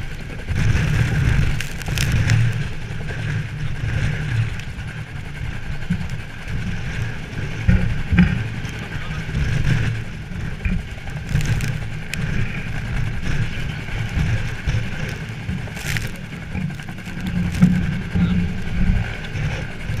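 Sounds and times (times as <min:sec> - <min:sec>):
helicopter rotor and engine: 0:00.0 - 0:20.0.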